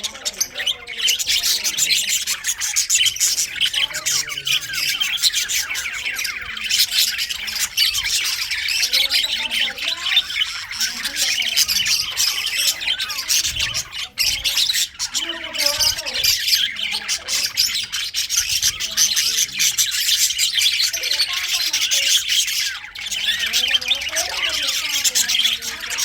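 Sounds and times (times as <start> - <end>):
budgerigars chattering and chirping: 0.0 - 26.0.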